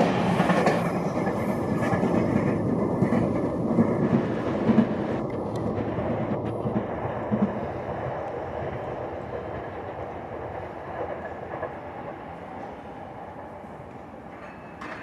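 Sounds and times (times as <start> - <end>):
train wheel and rail rumble: 0.0 - 15.0.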